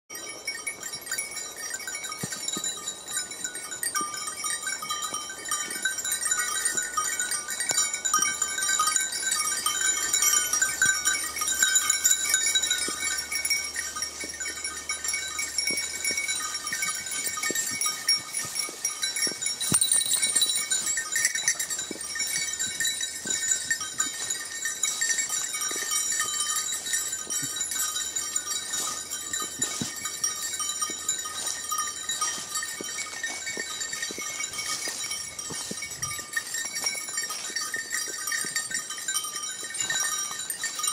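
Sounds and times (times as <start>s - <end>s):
high ringing: 0.1s - 40.9s.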